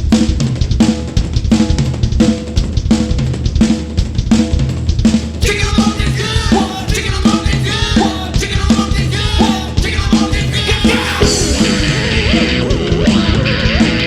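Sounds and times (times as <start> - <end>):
indie rock band music: 0.0 - 14.0.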